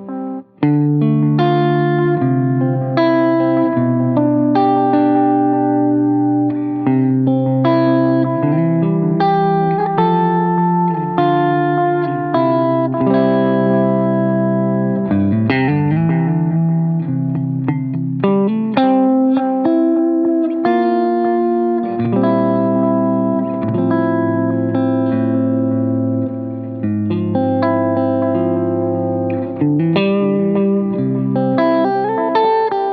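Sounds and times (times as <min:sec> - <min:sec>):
electric guitar chords: 0:00.0 - 0:32.9
electric guitar single-note run: 0:00.0 - 0:32.9.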